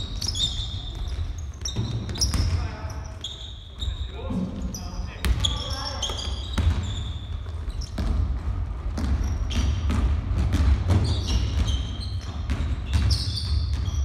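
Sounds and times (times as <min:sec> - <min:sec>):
basketball bouncing on wood floor: 0:00.0 - 0:02.7, 0:05.2 - 0:14.0
sneaker squeaks: 0:00.0 - 0:14.0.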